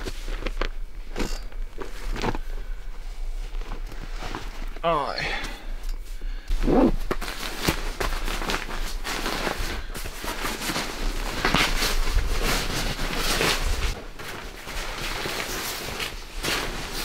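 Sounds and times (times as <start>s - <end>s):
nylon sleeping bag rustling: 0.0s - 5.1s, 6.5s - 17.0s.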